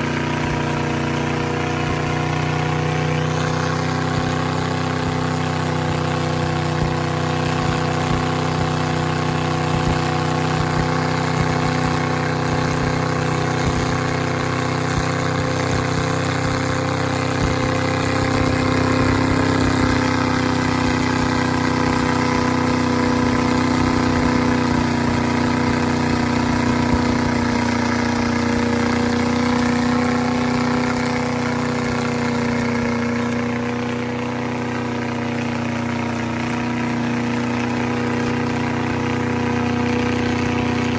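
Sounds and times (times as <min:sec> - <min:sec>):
tires spinning in mud: 0:00.0 - 0:40.9
truck engine running hard: 0:00.0 - 0:40.9.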